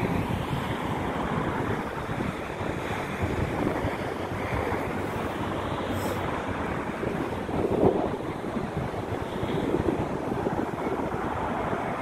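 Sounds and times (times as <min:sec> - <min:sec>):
road traffic noise: 0:00.0 - 0:12.0
wind buffeting microphone: 0:00.0 - 0:12.0.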